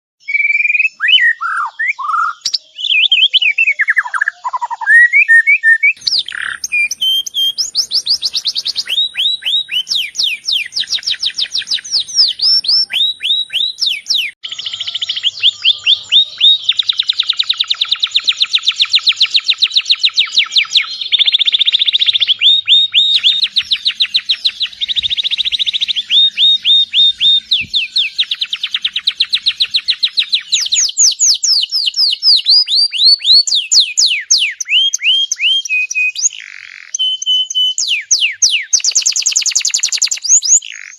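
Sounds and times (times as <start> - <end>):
bird chirping: 0.2 - 40.9.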